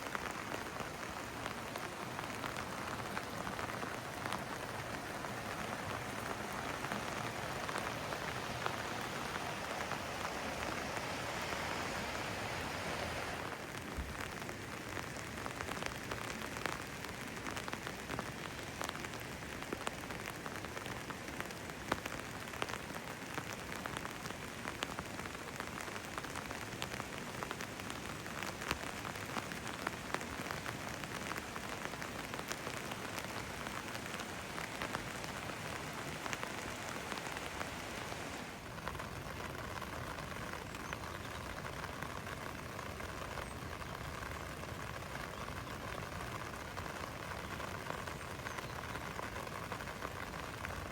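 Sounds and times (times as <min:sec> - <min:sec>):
rain drops ticking: 0:00.0 - 0:50.9
rushing rain hiss: 0:00.0 - 0:50.9.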